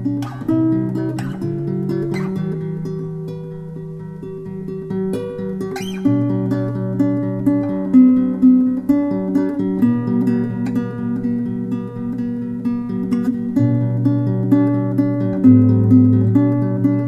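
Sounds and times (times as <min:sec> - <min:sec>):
plucked acoustic guitar music: 0:00.0 - 0:17.0.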